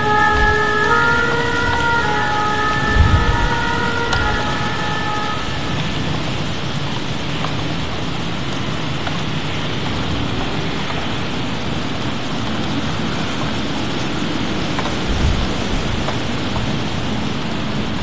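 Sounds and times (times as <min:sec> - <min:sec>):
heavy rain falling: 0:00.0 - 0:18.0
low thunder rumble: 0:00.0 - 0:18.0.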